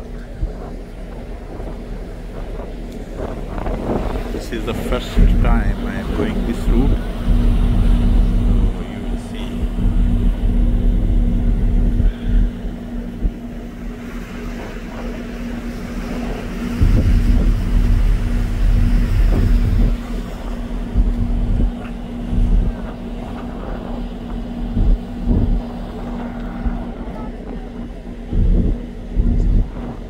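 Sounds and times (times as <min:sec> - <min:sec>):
ferry engines humming: 0:00.0 - 0:30.0
wind buffeting microphone: 0:00.0 - 0:30.0.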